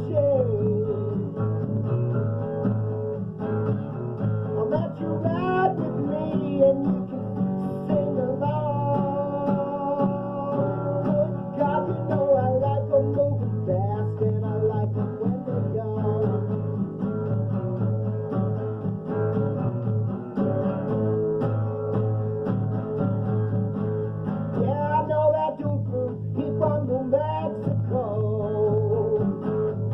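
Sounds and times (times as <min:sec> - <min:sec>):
rock and roll guitar song: 0:00.0 - 0:29.9.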